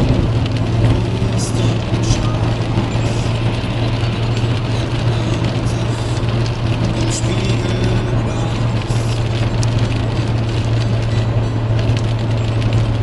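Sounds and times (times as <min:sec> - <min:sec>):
car engine and road drone: 0:00.0 - 0:13.0
tyres on wet road: 0:00.0 - 0:13.0.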